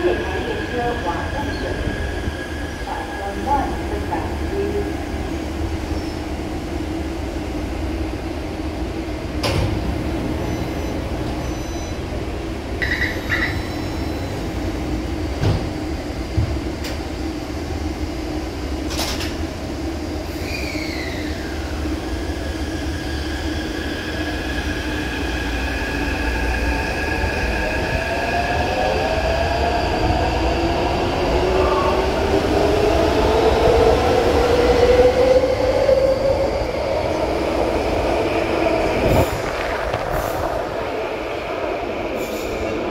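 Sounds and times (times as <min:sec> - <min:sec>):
train hum: 0:00.0 - 0:42.9.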